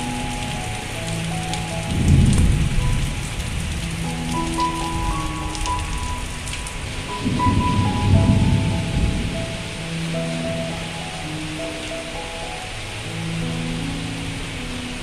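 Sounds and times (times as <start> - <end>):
background music with held notes: 0.0 - 15.0
heavy rain pouring: 0.0 - 15.0.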